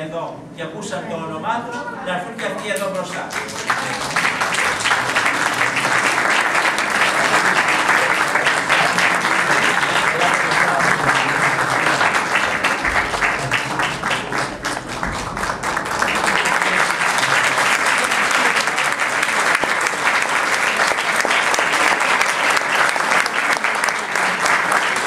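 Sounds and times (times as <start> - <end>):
audience applauding: 3.1 - 25.0.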